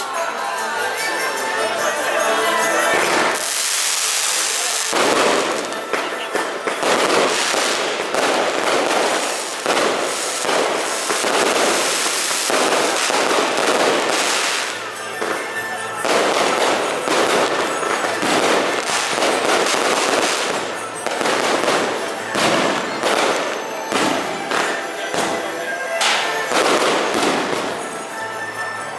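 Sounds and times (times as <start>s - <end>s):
fireworks crackling pops: 2.9s - 28.4s.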